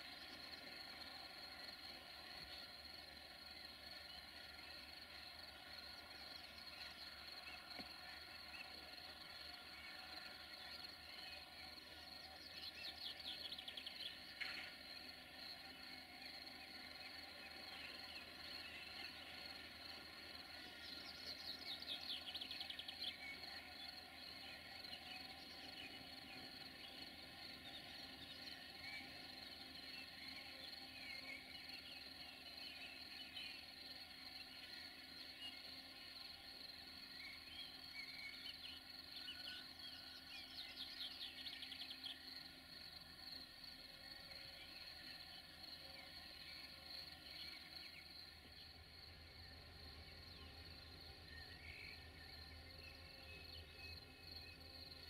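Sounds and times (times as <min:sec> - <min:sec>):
steady quiet hum: 0:00.0 - 0:55.0.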